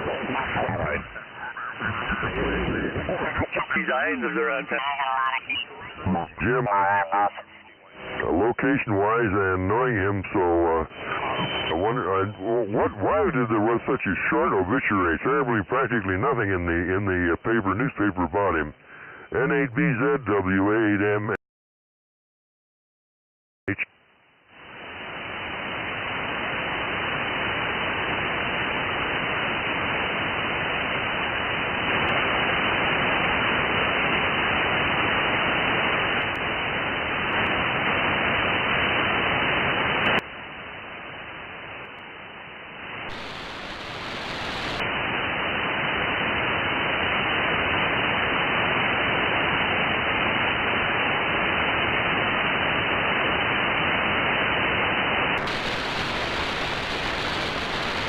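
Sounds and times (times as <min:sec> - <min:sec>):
radio static hiss: 0:00.0 - 0:21.4, 0:23.7 - 0:58.0.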